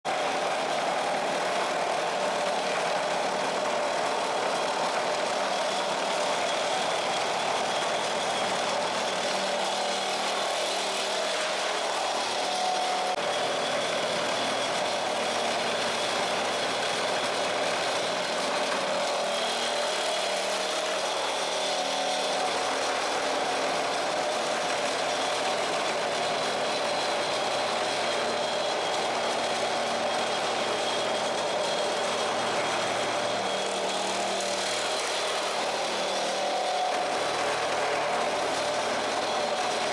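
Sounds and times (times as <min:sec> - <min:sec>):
floor remover machine running: 0:00.1 - 0:39.9.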